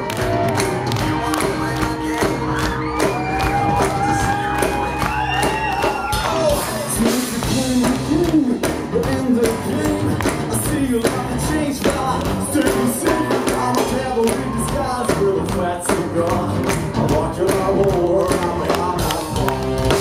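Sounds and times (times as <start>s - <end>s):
bass guitar: 0.0s - 20.0s
drums: 0.0s - 20.0s
person singing: 0.0s - 20.0s.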